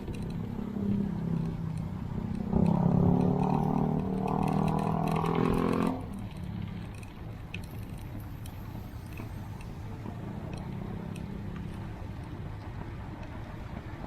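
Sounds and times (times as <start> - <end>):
road and traffic rumble: 0.0 - 14.0
vehicle engine droning: 0.0 - 14.0.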